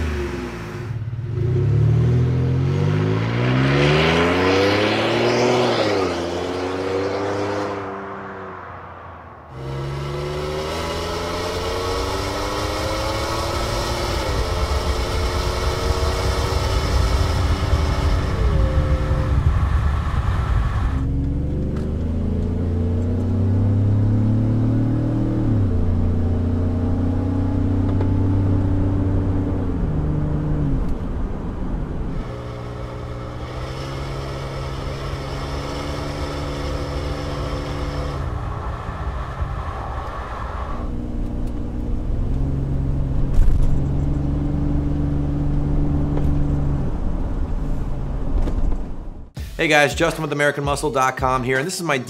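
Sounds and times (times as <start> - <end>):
truck engine accelerating: 0.0 - 49.5.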